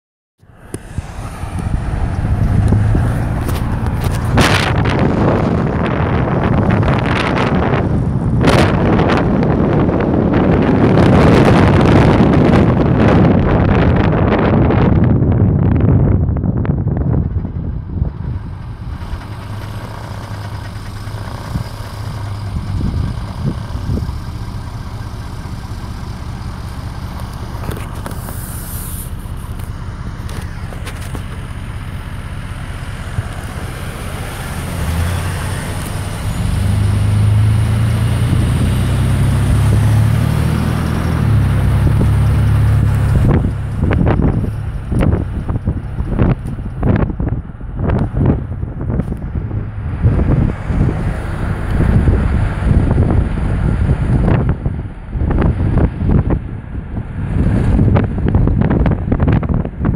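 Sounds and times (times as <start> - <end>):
road rumble: 0.4 - 59.9
wind buffeting microphone: 0.6 - 59.9.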